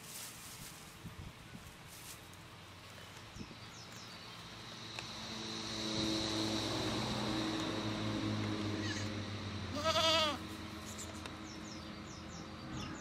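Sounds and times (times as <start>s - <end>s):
engine drone with whine: 2.3s - 13.0s.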